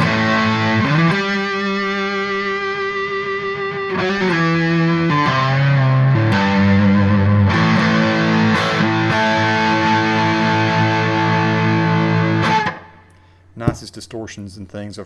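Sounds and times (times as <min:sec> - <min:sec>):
overdriven electric guitar chords: 0:00.0 - 0:13.4.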